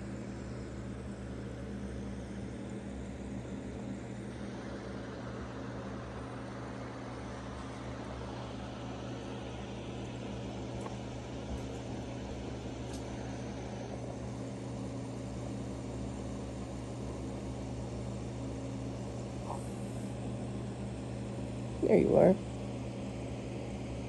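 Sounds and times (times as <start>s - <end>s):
aquarium filter humming: 0.0s - 24.0s.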